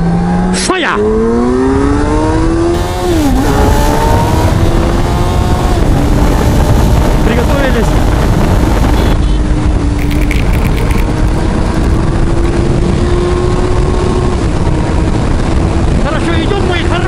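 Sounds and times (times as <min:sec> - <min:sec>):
wind buffeting microphone: 0:01.2 - 0:17.0
motorcycle engine running: 0:02.8 - 0:17.0.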